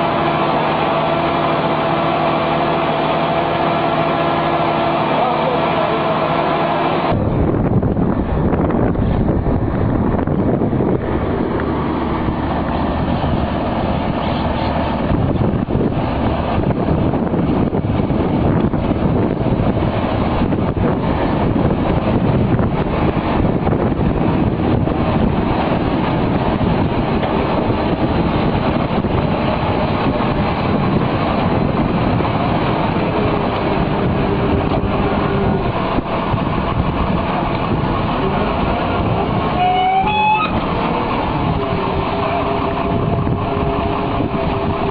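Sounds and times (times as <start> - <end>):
feed mixer wagon droning: 0.0 - 8.6, 9.8 - 44.9.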